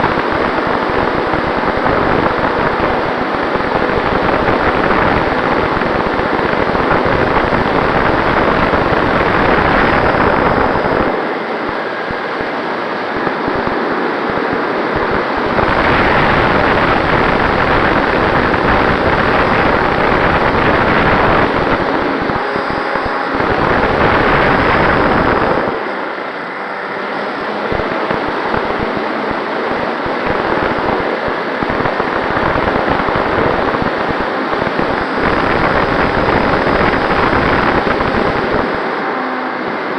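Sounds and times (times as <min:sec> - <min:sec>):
faint steady whine: 0:00.0 - 0:39.9
wind rushing over microphone: 0:00.0 - 0:39.9.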